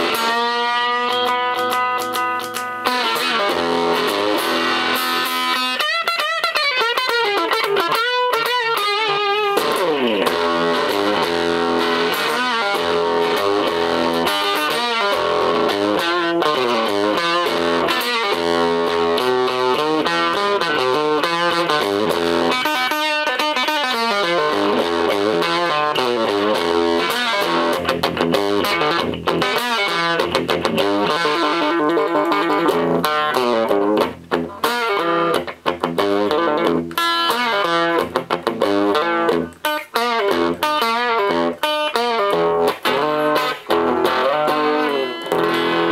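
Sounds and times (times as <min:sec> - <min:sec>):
electric guitar picked notes: 0:00.0 - 0:45.9.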